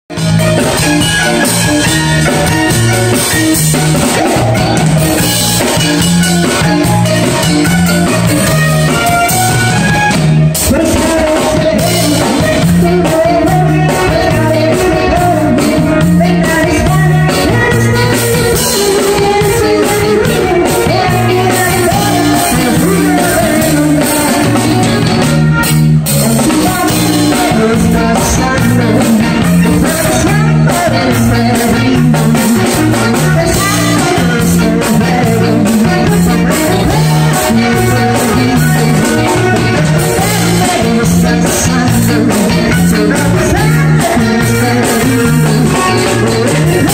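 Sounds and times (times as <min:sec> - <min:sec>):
electric bass line: 0:00.0 - 0:46.9
drum kit: 0:00.1 - 0:46.9
keyboard: 0:00.1 - 0:46.9
person singing: 0:00.1 - 0:46.9.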